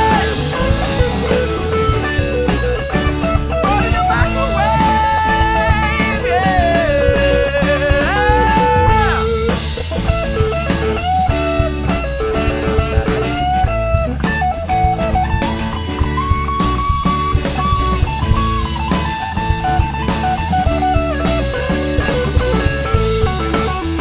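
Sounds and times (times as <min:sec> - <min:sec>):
bass guitar: 0:00.0 - 0:24.0
drum kit beating: 0:00.0 - 0:24.0
lead guitar bent notes: 0:00.0 - 0:24.0.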